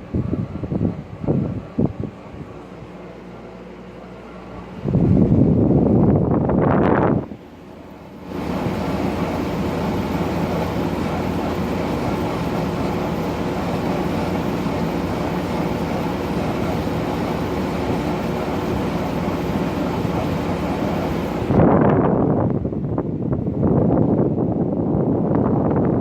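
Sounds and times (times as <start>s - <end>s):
air conditioner blowing air: 0.0s - 26.0s.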